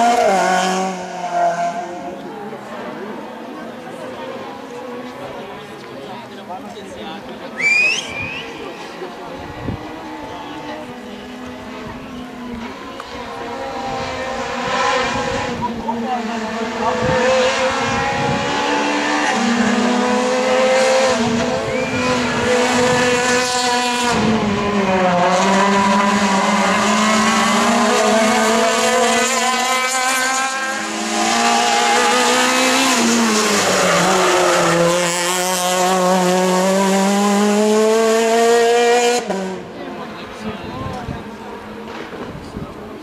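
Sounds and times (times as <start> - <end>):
rally car engine revving: 0.0 - 5.6, 7.6 - 43.0.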